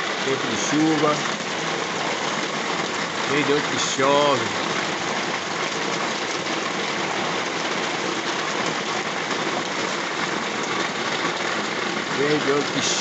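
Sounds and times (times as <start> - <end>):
rain on roofs and ground: 0.0 - 13.0.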